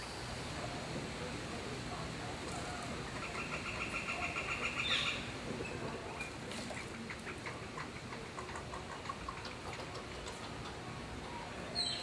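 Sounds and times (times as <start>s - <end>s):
birds calling: 1.9s - 12.0s.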